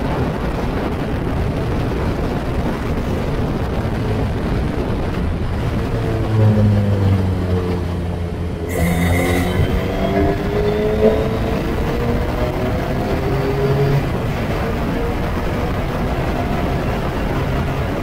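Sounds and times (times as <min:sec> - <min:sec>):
wind buffeting microphone: 0:00.0 - 0:18.0
race car engine accelerating: 0:03.6 - 0:18.0.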